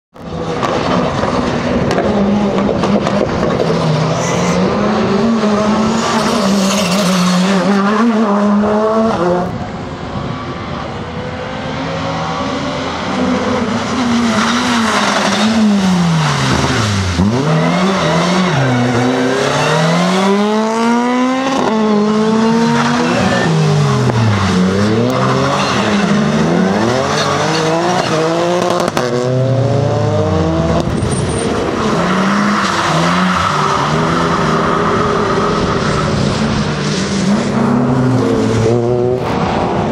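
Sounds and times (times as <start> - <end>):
rally car engine revving: 0.2 - 9.8, 10.6 - 39.9.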